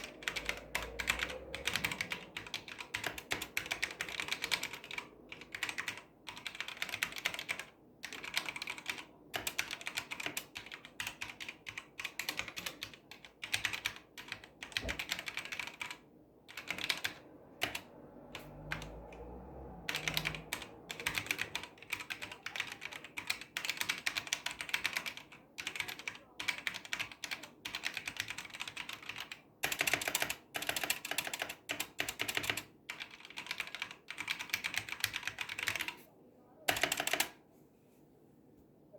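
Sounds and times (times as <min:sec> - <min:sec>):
mechanical keyboard typing: 0:00.0 - 0:36.0, 0:36.7 - 0:37.4.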